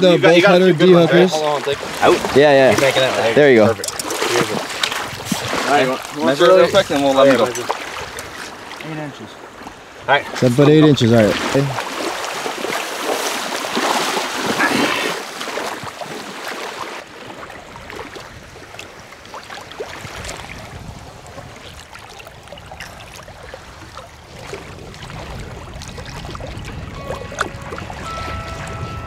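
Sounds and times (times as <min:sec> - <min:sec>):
seawater splashing: 0:00.0 - 0:29.0
surf washing: 0:00.0 - 0:29.0.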